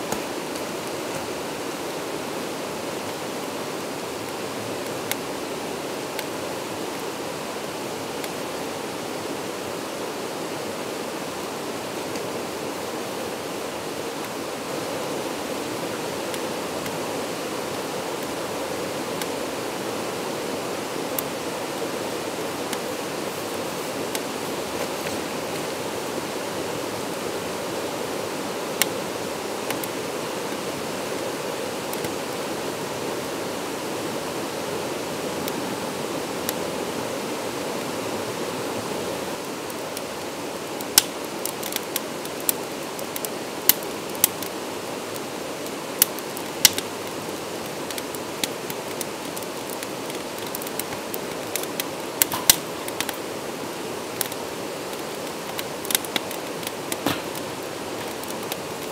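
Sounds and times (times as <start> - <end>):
stream rushing over rocks: 0.0 - 58.9
wood fire crackling: 0.0 - 58.9.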